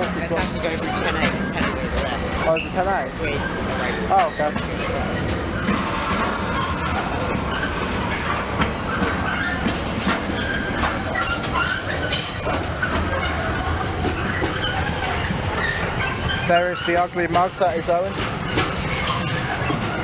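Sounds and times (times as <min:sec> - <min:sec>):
train wheels clicking over joints: 0:00.0 - 0:20.0
train wheels squealing: 0:02.4 - 0:07.9, 0:08.9 - 0:09.7, 0:10.3 - 0:20.0.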